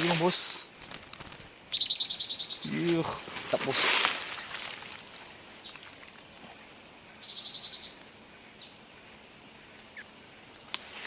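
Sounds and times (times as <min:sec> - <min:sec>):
forest birds chirping: 0:00.0 - 0:11.0
high insect drone: 0:00.0 - 0:11.0.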